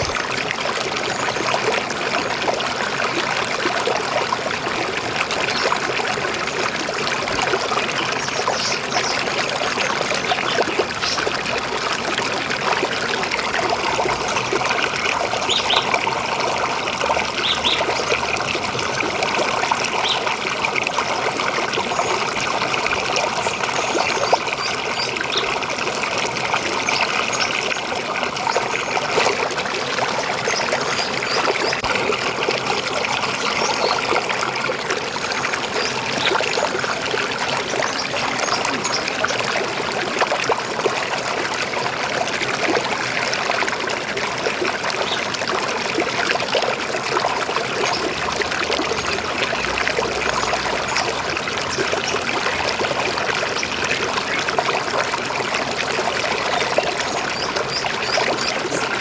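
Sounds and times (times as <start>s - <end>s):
river water babbling over rocks: 0.0s - 59.0s.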